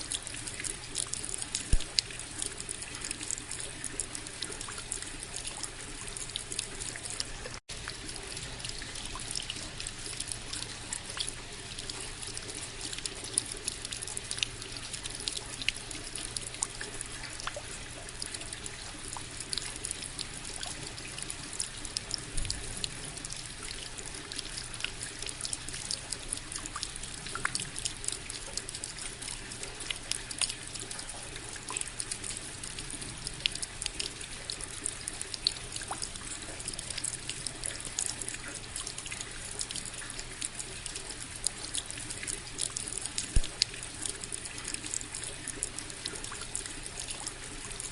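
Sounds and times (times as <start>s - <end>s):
water trickling from a spout: 0.0s - 47.9s.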